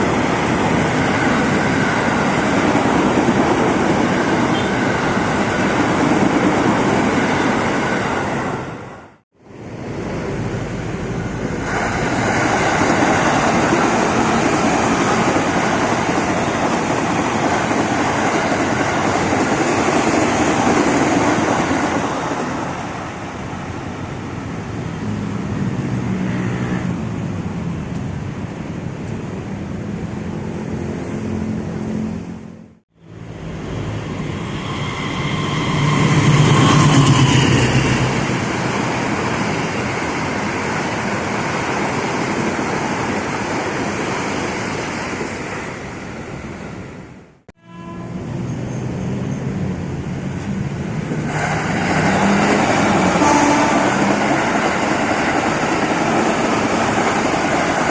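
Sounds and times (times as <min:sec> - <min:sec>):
trains rumbling on rails: 0:00.0 - 0:57.9.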